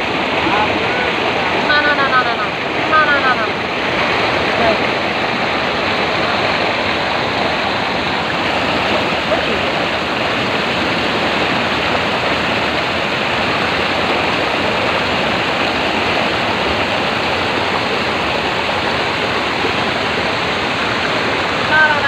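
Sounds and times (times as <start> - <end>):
water rushing over slats: 0.0 - 22.0.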